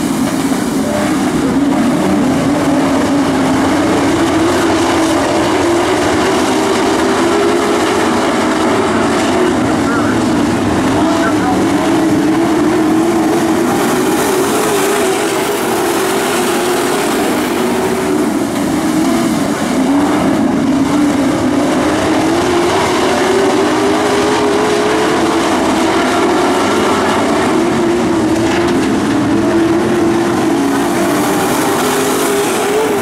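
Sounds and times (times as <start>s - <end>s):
racing truck engines: 0.0s - 33.0s.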